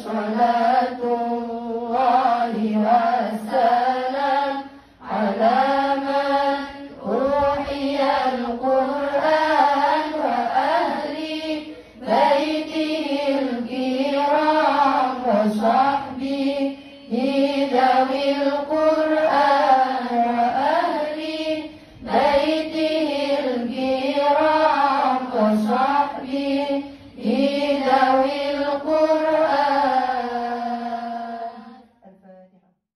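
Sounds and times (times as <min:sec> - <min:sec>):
woman singing devotional chant: 0:00.0 - 0:32.8.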